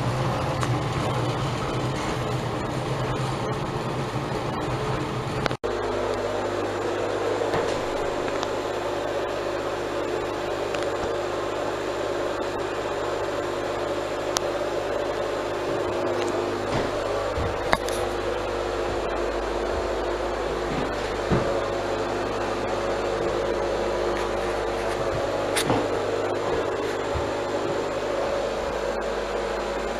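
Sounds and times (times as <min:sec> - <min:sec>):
exhaust fan running: 0:00.0 - 0:29.9.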